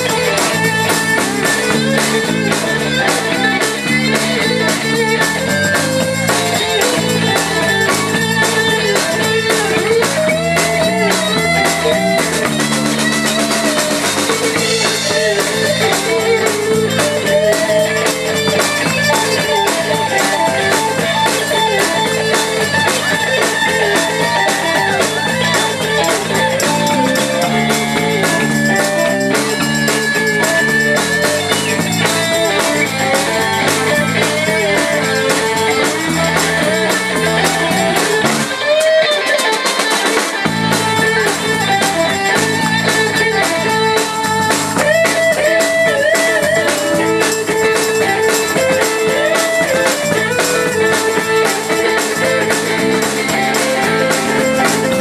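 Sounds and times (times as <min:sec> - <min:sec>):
blues-rock band playing: 0:00.0 - 0:55.0
electric guitar lead: 0:00.0 - 0:55.0.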